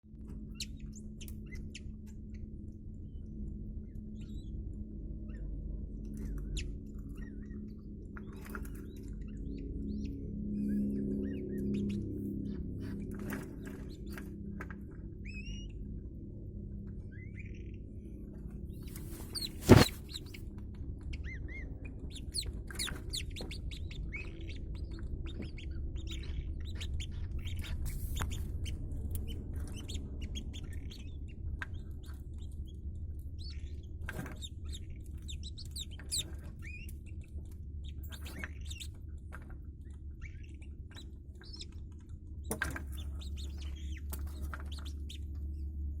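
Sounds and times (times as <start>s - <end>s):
steady low hum: 0.0s - 46.0s
duck chicks peeping: 5.3s - 46.0s.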